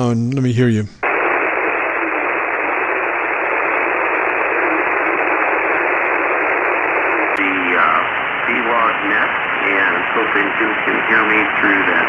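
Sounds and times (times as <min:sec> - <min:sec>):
radio static hiss: 0:00.7 - 0:12.0.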